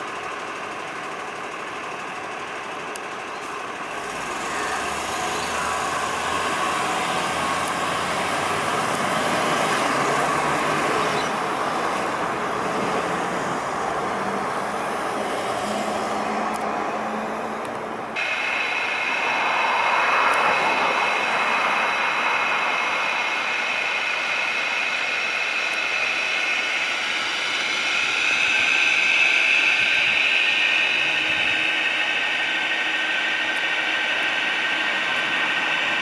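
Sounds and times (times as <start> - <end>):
garbage truck diesel engine: 0.0 - 36.0
high-pitched whine: 0.0 - 36.0.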